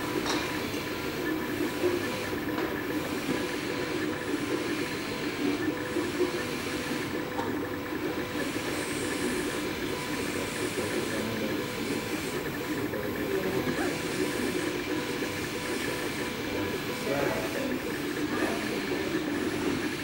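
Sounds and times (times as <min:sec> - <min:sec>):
printer fans humming: 0:00.0 - 0:20.0.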